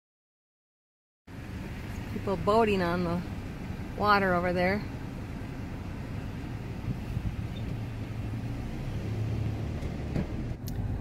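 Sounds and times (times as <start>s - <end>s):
vehicle engine and road noise: 1.3s - 11.0s.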